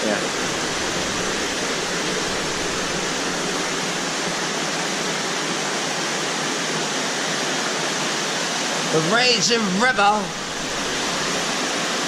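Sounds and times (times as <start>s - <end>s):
underground river rushing: 0.0s - 12.0s.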